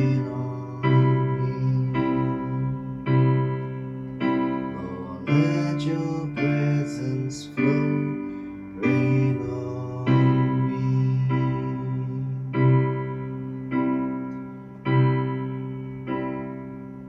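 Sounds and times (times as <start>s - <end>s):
electric piano chords: 0.0s - 17.0s.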